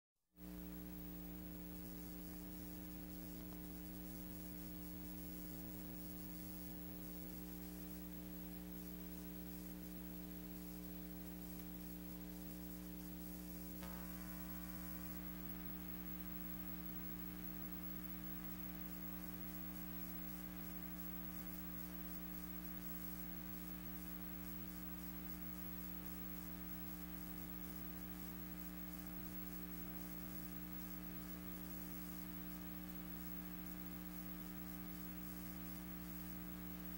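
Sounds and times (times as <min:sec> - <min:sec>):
electrical hum: 0:00.4 - 0:36.9
faint hiss: 0:00.4 - 0:36.9.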